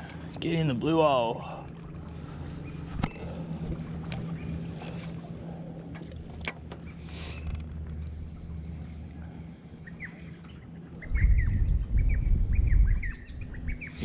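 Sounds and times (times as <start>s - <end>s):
electric trolling motor humming: 0.0s - 14.0s.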